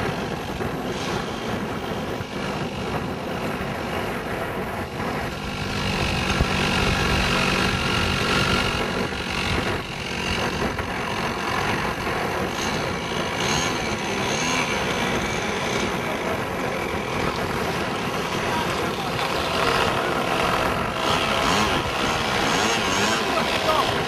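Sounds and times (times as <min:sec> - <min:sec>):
model airplane engine running: 0:00.0 - 0:24.0.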